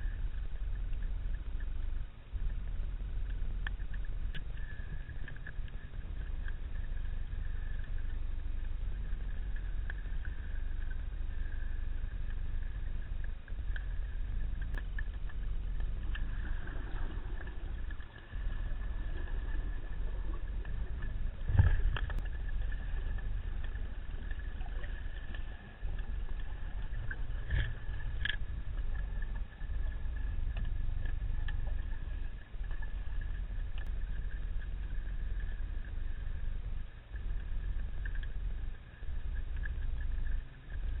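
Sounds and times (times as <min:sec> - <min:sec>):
faint clicks: 0:00.0 - 0:41.0
low underwater rumble: 0:00.0 - 0:41.0
thin constant whine: 0:00.0 - 0:41.0.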